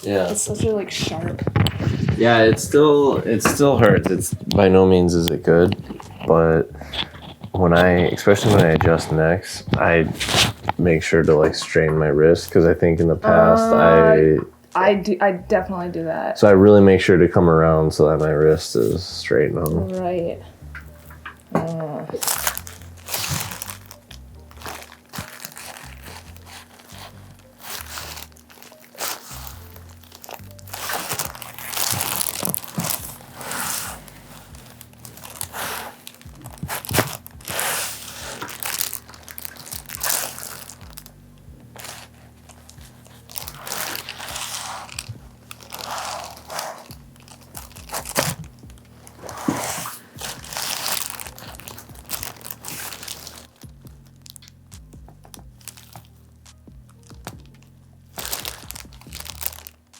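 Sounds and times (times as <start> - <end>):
rustling and crinkling: 0.0 - 12.8, 17.9 - 59.9
background music: 0.0 - 59.9.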